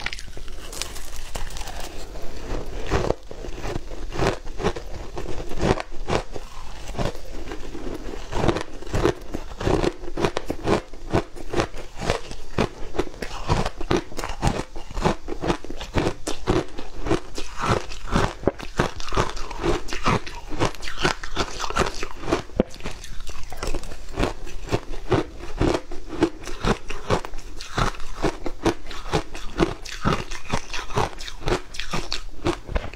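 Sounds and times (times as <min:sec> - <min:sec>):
person crunching shaved ice: 0:00.0 - 0:32.9.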